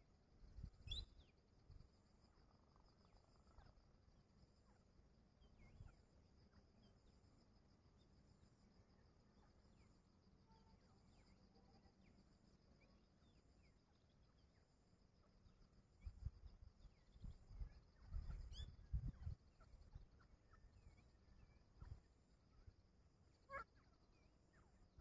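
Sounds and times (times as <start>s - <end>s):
faint chirps: 0.0s - 25.0s
faint high insect buzz: 0.1s - 25.0s.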